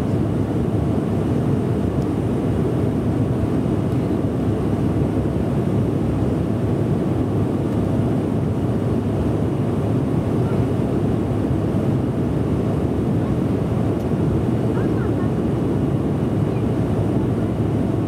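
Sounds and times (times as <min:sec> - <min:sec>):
jet cabin engine and airflow rumble: 0:00.0 - 0:18.0.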